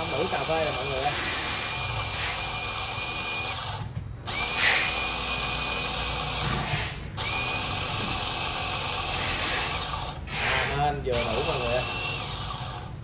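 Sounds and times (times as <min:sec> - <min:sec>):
coffee grinder whining: 0:00.0 - 0:13.0.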